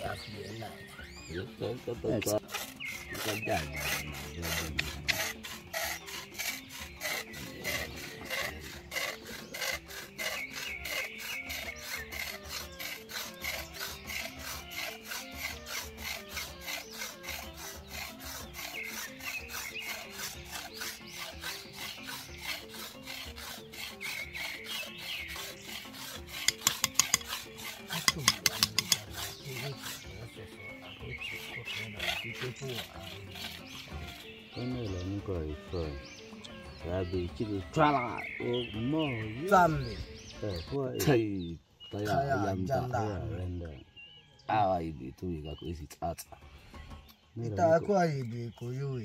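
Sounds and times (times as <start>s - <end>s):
wooden stick being scraped: 0.0s - 41.1s.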